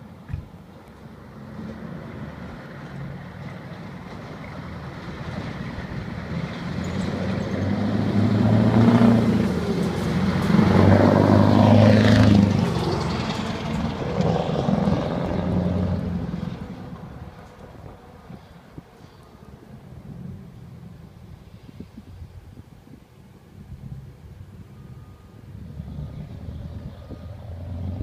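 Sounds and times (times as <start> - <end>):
truck engine driving past: 1.0 - 21.8, 23.6 - 28.0.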